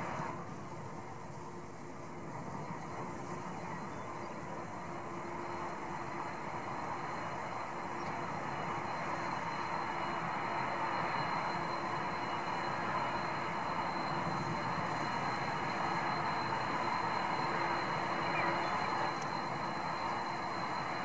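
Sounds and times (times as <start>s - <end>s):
high jet engine whine: 0.0s - 21.0s
jet engine rumble: 0.0s - 21.0s.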